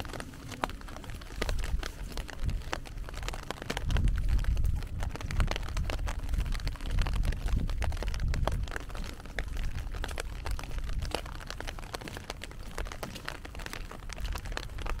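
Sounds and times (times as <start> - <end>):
raindrop ticks: 0.0 - 15.0.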